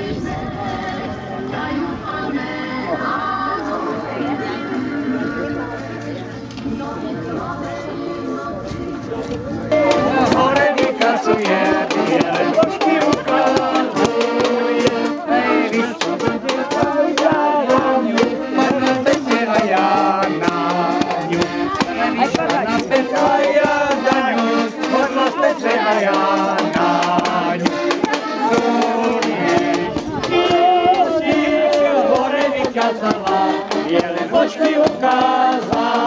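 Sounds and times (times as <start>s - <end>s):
button accordion playing folk tune: 0.0s - 36.0s.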